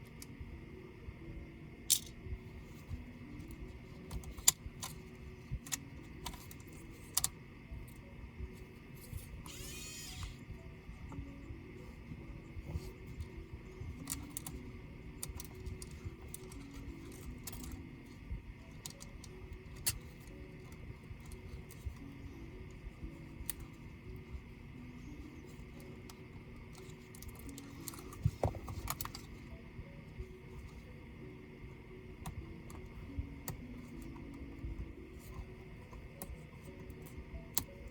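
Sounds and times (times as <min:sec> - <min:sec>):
faint background music: 0:00.0 - 0:37.9.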